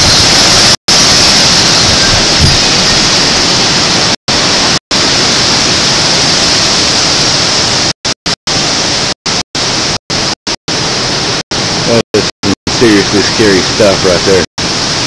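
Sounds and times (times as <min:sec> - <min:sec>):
strong wind and heavy rain: 0:00.0 - 0:15.0.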